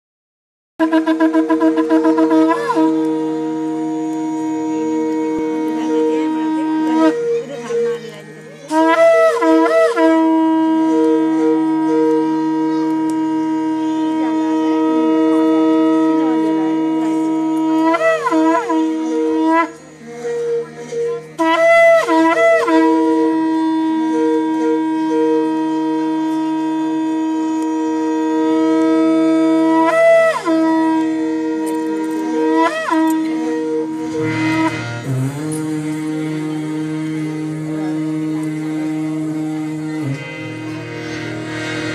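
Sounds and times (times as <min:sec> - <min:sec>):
conch shell blown: 0:00.8 - 0:41.9.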